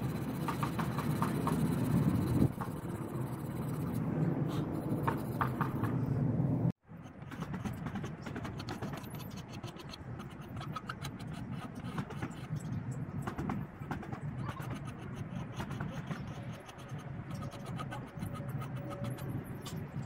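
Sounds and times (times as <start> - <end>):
sandpaper scratching: 0.0 - 5.8, 7.1 - 20.0.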